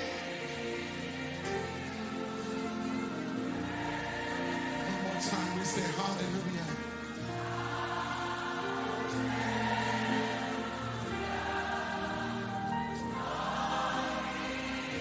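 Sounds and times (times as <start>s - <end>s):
gospel worship music: 0.0s - 15.0s
voices singing held notes: 0.0s - 15.0s.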